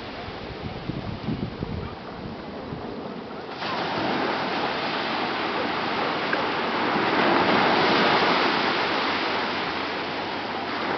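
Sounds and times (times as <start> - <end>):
waves breaking on beach: 0.0 - 10.9.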